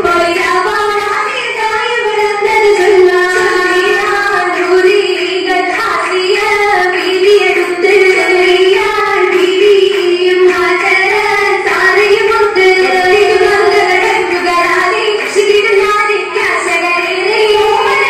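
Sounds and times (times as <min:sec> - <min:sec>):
girls singing: 0:00.0 - 0:18.0.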